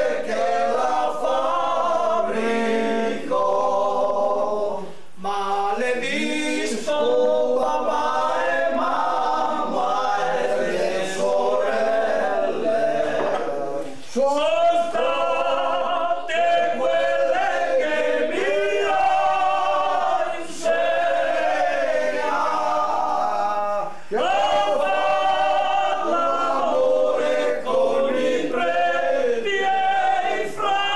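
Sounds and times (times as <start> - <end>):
men singing unaccompanied: 0.0 - 30.9.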